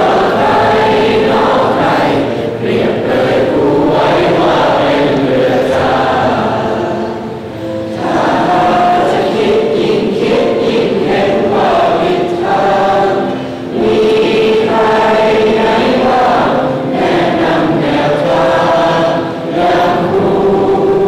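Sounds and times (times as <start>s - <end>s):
group singing in unison: 0.0s - 21.0s.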